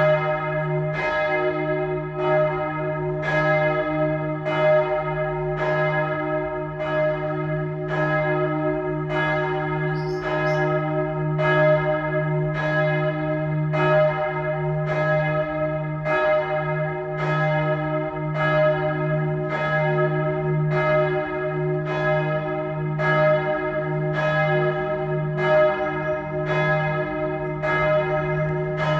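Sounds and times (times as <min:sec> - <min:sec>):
church bell ringing: 0:00.0 - 0:28.9.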